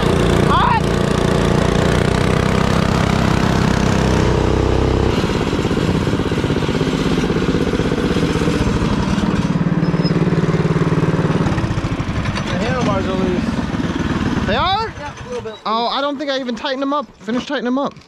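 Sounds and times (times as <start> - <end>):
minibike engine running: 0.0 - 17.8.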